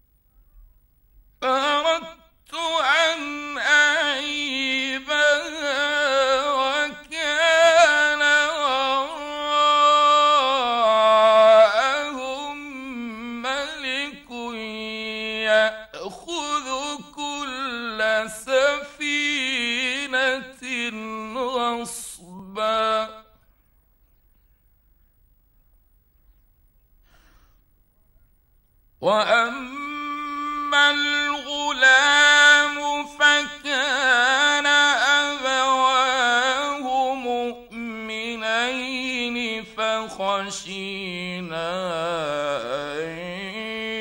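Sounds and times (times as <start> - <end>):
man chanting recitation: 1.4 - 23.5, 29.0 - 44.0.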